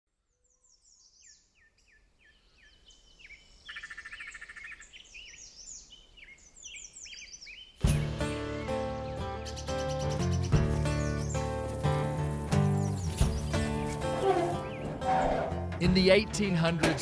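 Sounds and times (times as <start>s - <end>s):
songbirds chirping and whistling: 0.3s - 15.7s
bird trill: 0.6s - 15.4s.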